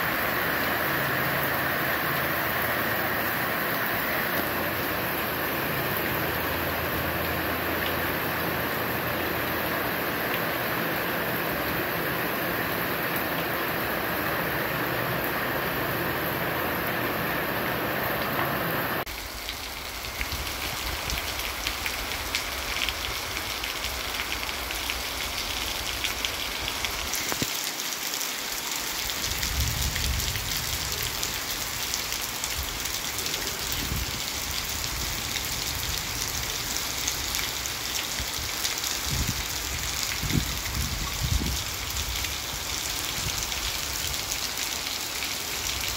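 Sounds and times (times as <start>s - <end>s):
fine rain patter: 0.0s - 45.9s
heavy rain on street and roofs: 0.0s - 45.9s.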